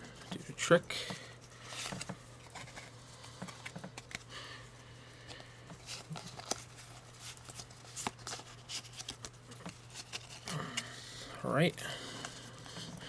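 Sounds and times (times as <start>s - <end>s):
trading cards rustling and clicking: 0.0s - 4.5s, 5.2s - 13.0s.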